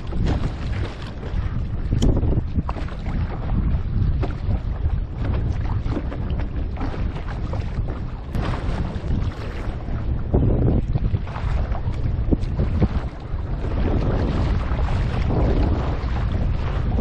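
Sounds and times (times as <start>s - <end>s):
water slapping and splashing: 0.0s - 17.0s
wind buffeting microphone: 0.0s - 17.0s.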